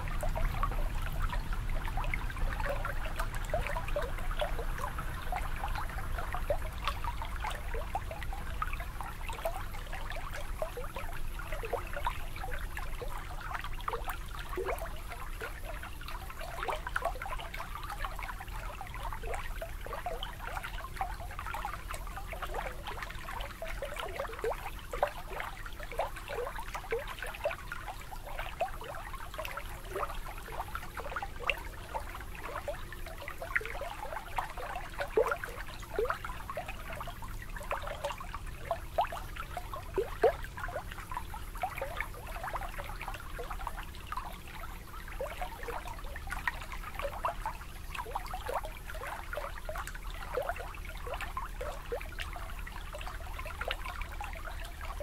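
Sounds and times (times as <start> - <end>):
water lapping at shoreline: 0.0 - 55.0.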